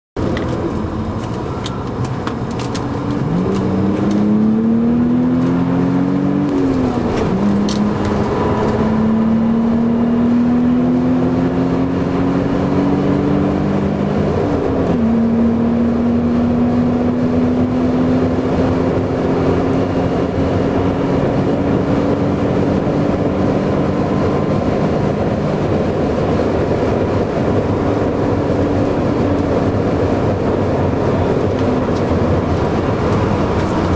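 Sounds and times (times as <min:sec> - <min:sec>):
car engine accelerating through gears: 0:00.2 - 0:33.9
road and wind noise: 0:00.2 - 0:33.9.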